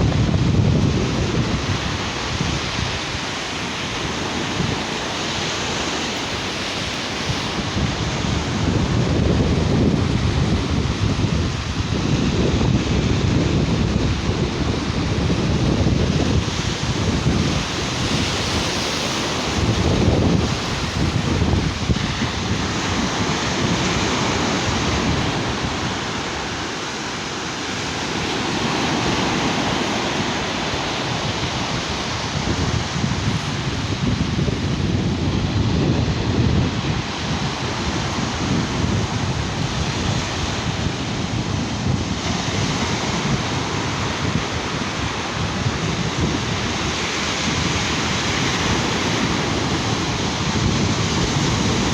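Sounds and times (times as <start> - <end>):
sea waves washing onto beach: 0.0 - 51.9
wind buffeting microphone: 0.0 - 51.9.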